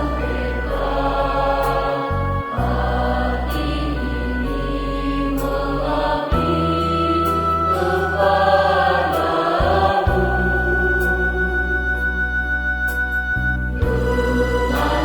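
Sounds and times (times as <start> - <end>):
choir singing a hymn: 0.0 - 12.5, 13.8 - 15.0
low bass accompaniment: 0.0 - 15.0.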